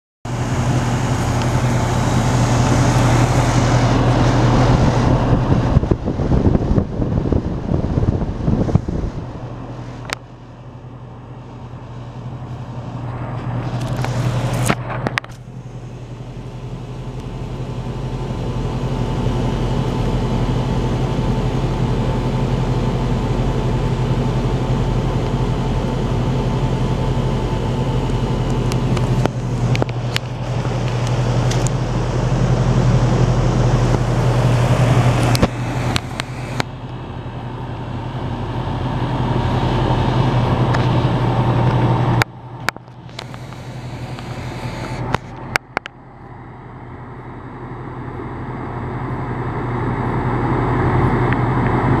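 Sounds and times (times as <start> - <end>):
compressor hum: 0.3 - 52.0
condenser fan rushing: 0.3 - 52.0.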